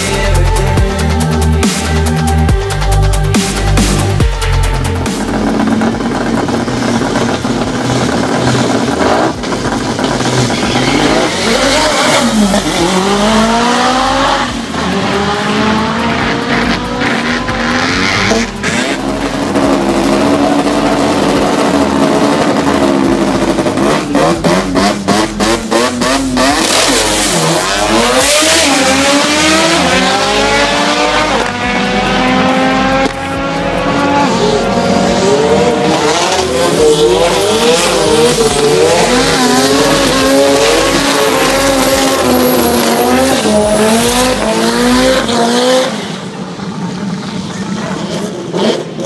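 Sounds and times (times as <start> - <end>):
racing car engines revving: 0.0 - 49.0.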